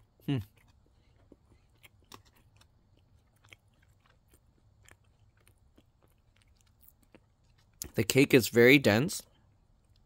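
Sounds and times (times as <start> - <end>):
faint chewing: 0.0 - 8.2, 9.2 - 10.0.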